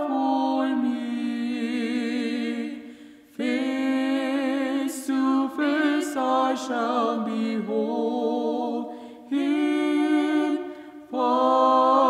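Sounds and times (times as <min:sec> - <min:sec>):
man and woman singing a hymn: 0:00.0 - 0:12.0.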